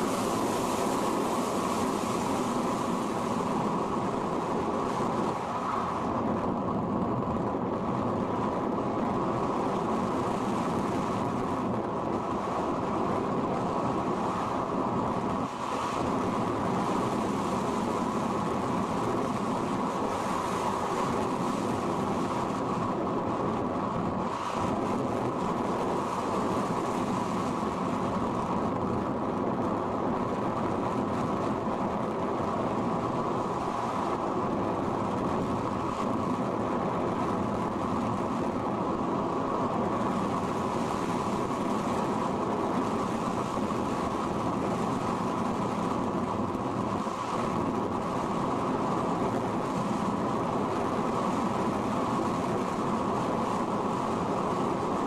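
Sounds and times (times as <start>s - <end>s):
air rushing over glider: 0.0s - 55.0s.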